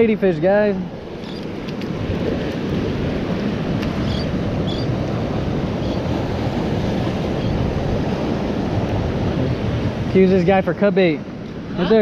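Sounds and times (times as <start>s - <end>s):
wind rumbling on microphone: 0.0s - 12.0s
surf washing against rocks: 0.2s - 12.0s.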